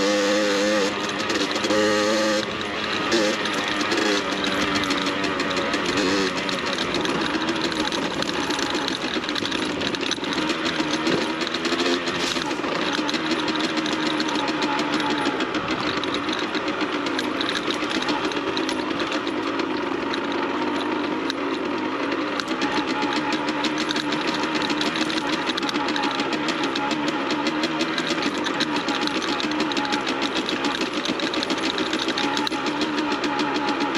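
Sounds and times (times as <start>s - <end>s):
dirt bike engine buzzing: 0.0s - 33.9s.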